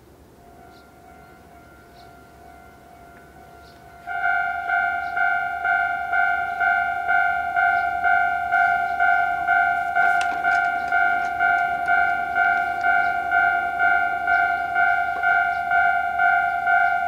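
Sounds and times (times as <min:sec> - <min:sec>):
level-crossing warning bell: 0:00.0 - 0:17.0.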